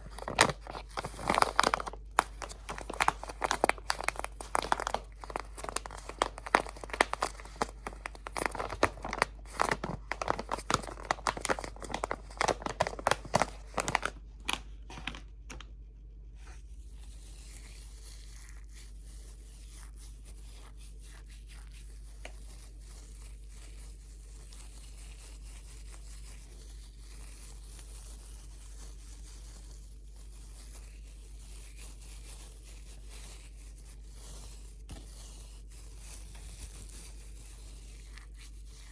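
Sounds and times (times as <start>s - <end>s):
crinkly material crumpling: 0.0s - 38.9s.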